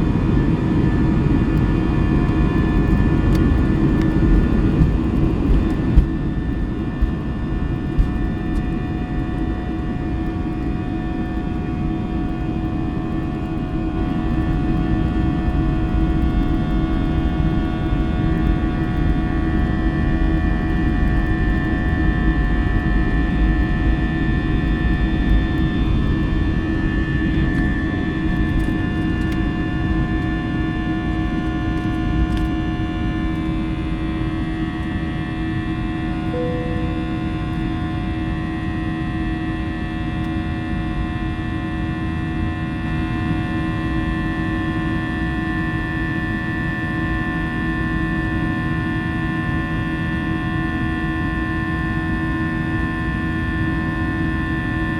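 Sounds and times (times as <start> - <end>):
jet engine cabin drone: 0.0 - 54.9.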